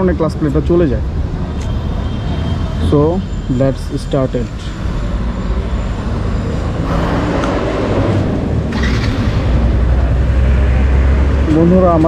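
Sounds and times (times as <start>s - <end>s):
road traffic rumble: 0.0s - 12.0s
vehicles rushing past: 0.0s - 12.0s.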